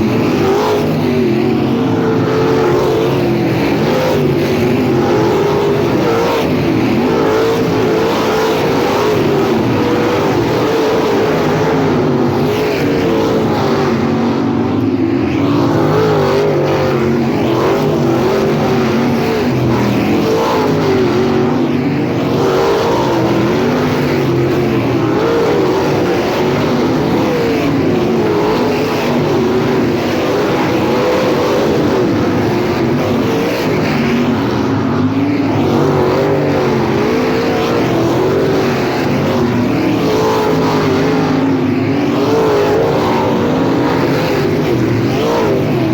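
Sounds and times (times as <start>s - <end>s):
race car engines: 0.0s - 45.9s.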